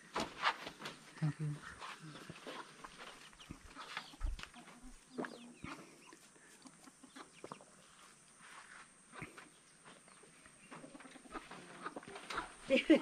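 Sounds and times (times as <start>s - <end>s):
chickens clucking: 0.6s - 13.0s.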